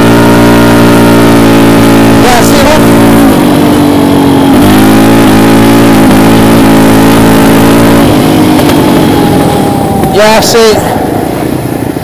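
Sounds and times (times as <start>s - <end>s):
atv engine revving high: 0.0s - 12.0s.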